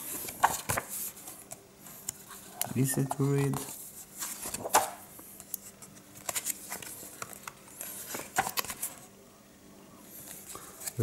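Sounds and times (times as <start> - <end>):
paper pages rustling: 0.0 - 9.1.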